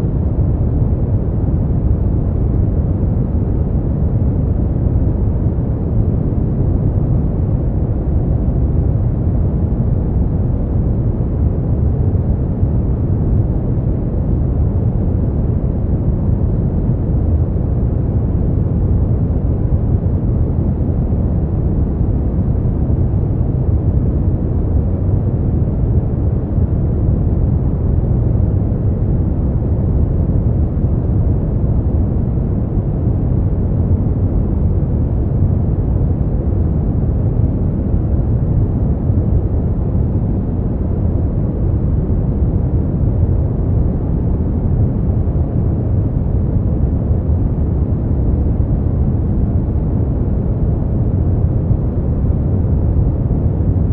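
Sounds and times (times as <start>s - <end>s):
deep muffled steady noise: 0.0s - 53.9s.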